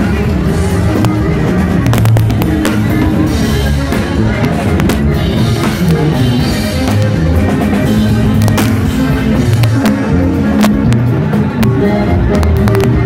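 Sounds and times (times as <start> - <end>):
drum kit beats: 0.0 - 13.0
tuba bass line: 0.0 - 13.0.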